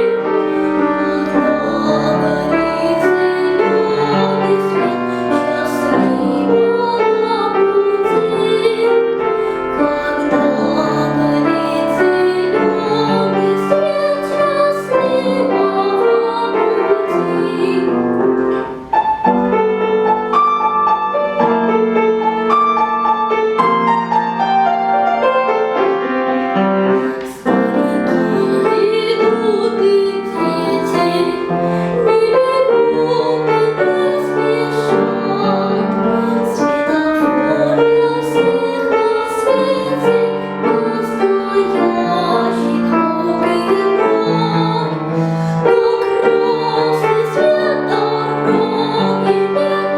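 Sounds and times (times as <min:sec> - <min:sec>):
girl singing with vibrato: 0:00.0 - 0:18.9, 0:27.0 - 0:49.9
piano accompaniment: 0:00.0 - 0:49.9.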